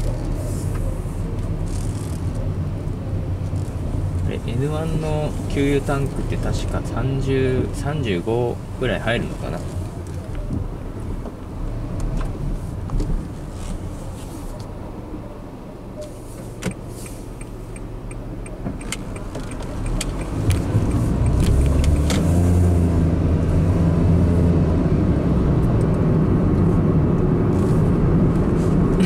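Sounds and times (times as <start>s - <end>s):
car engine from inside cabin: 0.0s - 29.0s.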